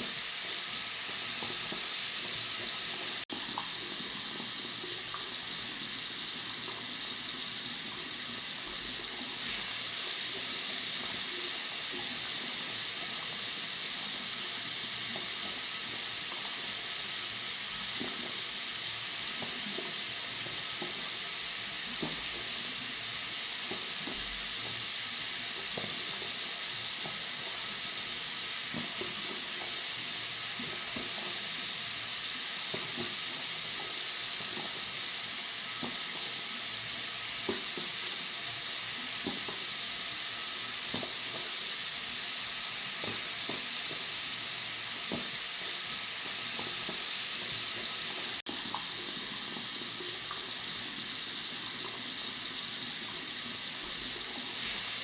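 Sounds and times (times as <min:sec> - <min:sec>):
tap water running into sink: 0:00.0 - 0:55.0.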